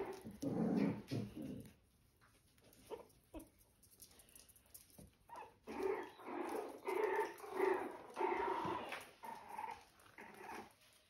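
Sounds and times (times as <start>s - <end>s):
puppies growling: 0.0s - 4.2s, 5.2s - 11.0s.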